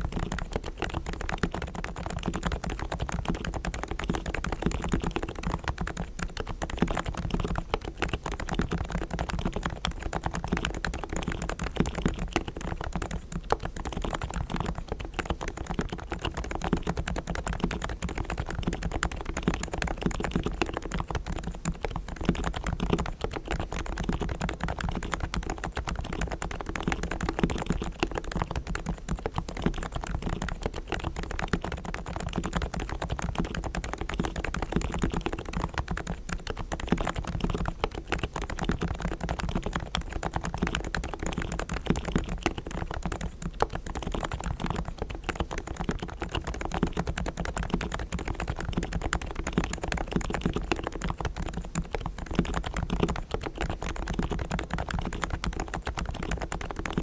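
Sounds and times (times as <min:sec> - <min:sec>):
muted keyboard typing: 0:00.0 - 0:57.0.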